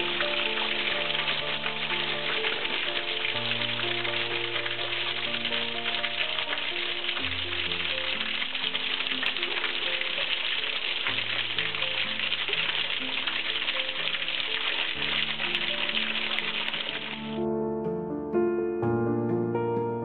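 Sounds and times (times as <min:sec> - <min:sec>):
small waterfall spattering on rocks: 0:00.0 - 0:17.3.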